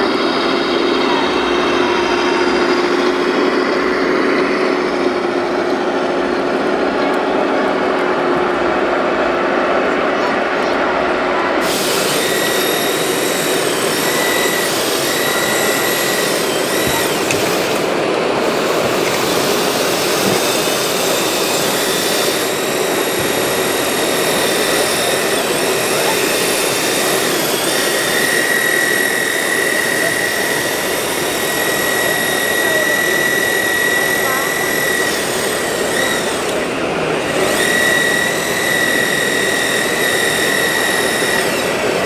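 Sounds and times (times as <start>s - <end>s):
hydraulic pump and motors whining: 0.0s - 42.0s.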